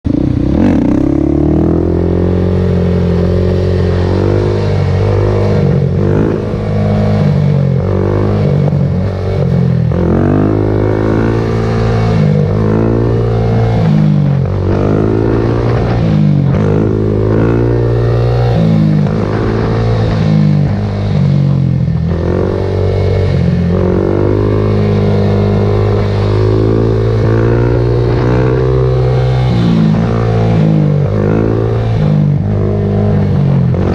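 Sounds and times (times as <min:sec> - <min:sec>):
atv engine revving: 0:00.1 - 0:33.9.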